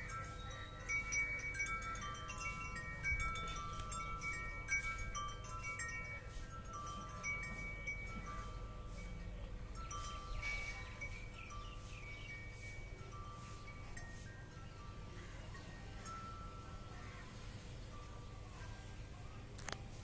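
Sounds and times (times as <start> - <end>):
chimes ringing: 0.0 - 18.5.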